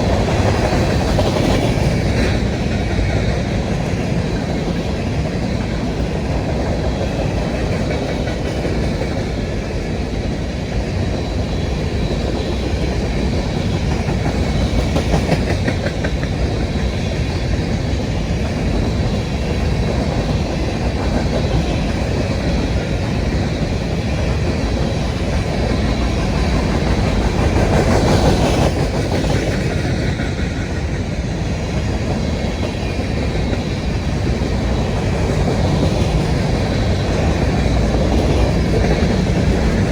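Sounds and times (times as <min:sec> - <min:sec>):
steel wheels rumbling on rails: 0:00.0 - 0:39.9.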